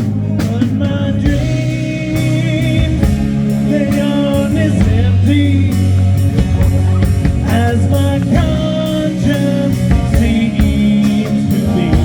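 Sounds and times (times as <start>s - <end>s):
person singing: 0.0s - 6.3s, 6.9s - 12.0s
rock band playing: 0.0s - 12.0s.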